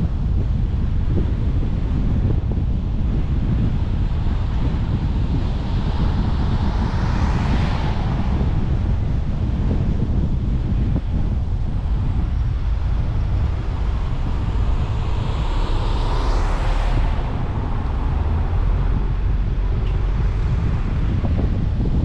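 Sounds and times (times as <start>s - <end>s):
car road and wind rumble: 0.0s - 22.0s.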